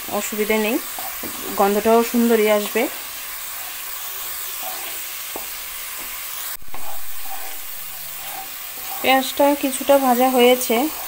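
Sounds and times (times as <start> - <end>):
paste sizzling in hot oil: 0.0 - 11.0
wooden spatula stirring: 0.1 - 11.0.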